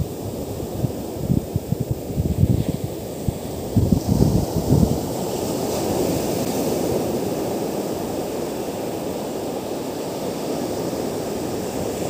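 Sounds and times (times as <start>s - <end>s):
surf washing up beach: 0.0s - 12.0s.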